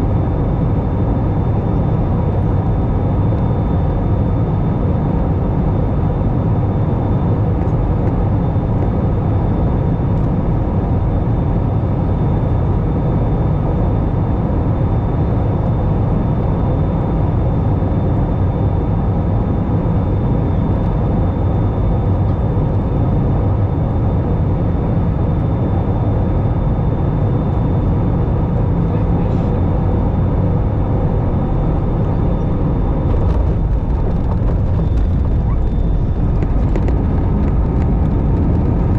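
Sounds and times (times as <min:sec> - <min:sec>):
airflow and engine rush: 0:00.0 - 0:38.9.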